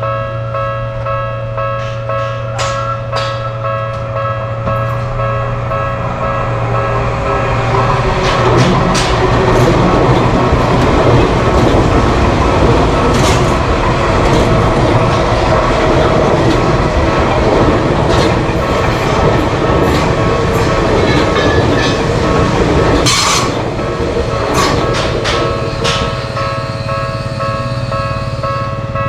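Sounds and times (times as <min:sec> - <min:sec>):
train rumbling past: 0:00.0 - 0:29.0
wheels clacking on rail joints: 0:00.1 - 0:29.0.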